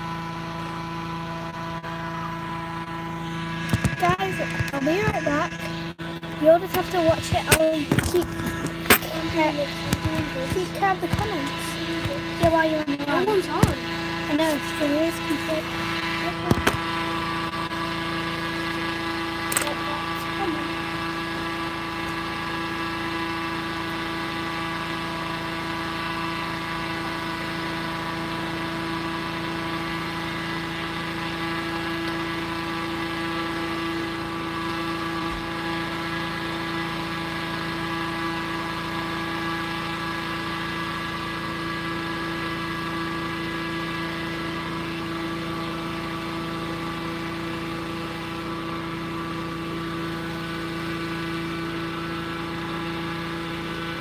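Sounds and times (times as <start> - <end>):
inflator fan engine humming: 0.0 - 54.0.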